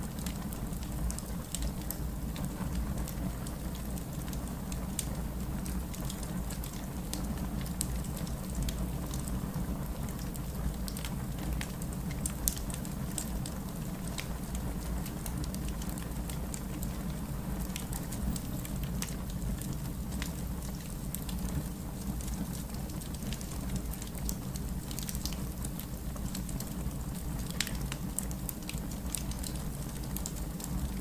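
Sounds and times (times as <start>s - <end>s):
wood fire crackling: 0.0s - 31.0s
fire popping and snapping: 0.1s - 31.0s.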